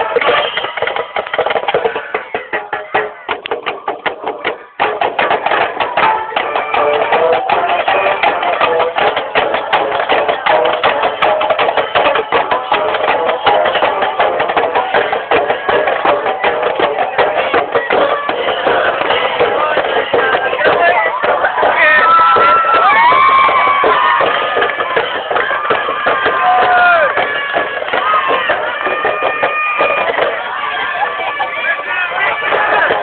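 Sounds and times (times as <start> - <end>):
loud music with fast percussion: 0.0 - 33.0.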